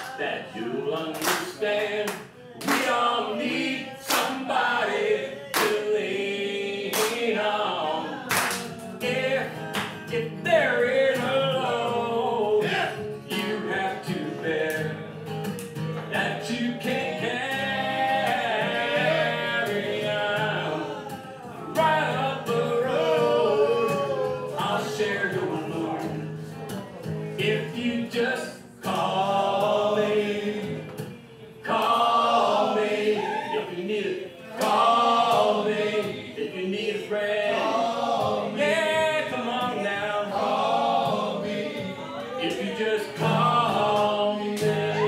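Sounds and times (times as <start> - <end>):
man singing: 0.0 - 45.0
strummed acoustic guitar: 0.0 - 45.0.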